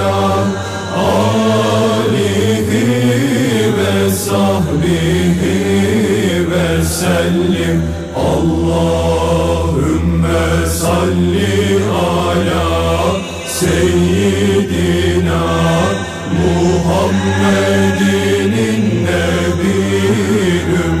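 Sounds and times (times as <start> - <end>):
person chanting: 0.0 - 21.0
steady low drone: 0.0 - 21.0.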